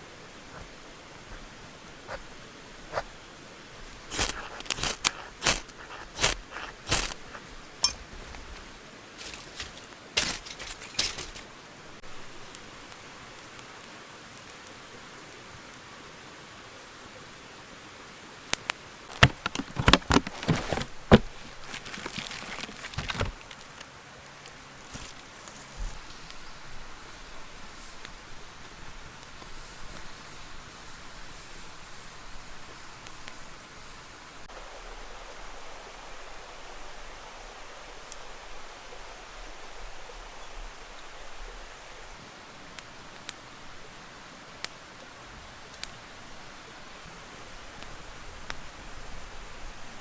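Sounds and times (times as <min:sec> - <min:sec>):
faint steady hiss: 0:00.0 - 0:50.0.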